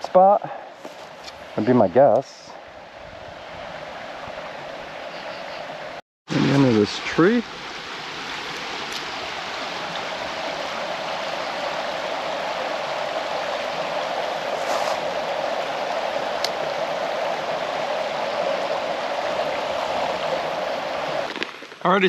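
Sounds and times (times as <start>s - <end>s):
creek water flowing over rocks: 3.5s - 22.0s.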